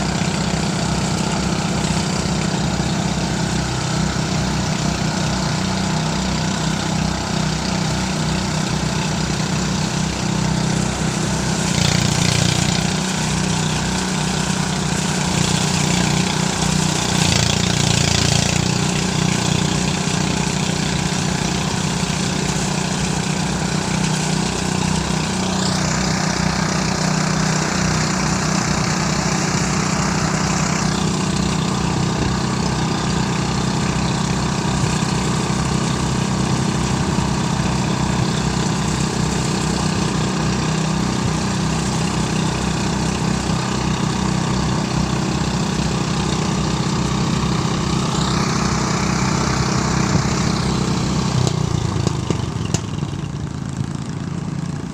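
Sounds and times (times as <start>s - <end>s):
rice thresher engine hum: 0.0s - 54.9s.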